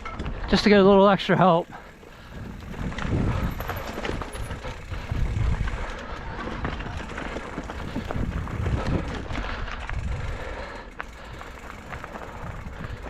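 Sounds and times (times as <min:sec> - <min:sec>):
bike clicking and rattling: 0:00.0 - 0:13.0
tyres rumbling on dirt trail: 0:00.0 - 0:13.0.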